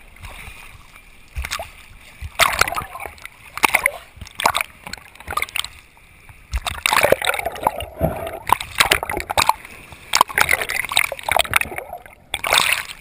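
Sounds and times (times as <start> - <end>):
sea water splashing and gurgling: 0.0 - 13.0.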